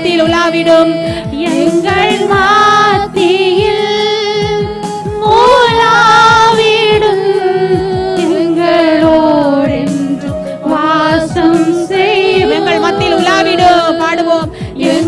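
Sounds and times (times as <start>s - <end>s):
backing music with steady beat: 0.0s - 15.0s
woman singing into a microphone: 0.0s - 15.0s.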